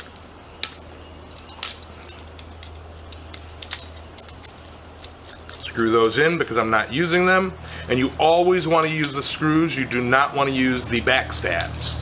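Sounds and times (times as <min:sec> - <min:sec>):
screwdriver clicking and scraping metal: 0:01.3 - 0:12.0.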